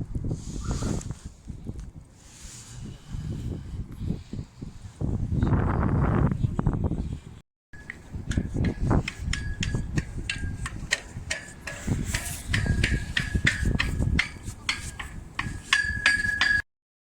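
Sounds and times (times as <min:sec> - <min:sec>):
wind buffeting microphone: 0:00.0 - 0:16.6.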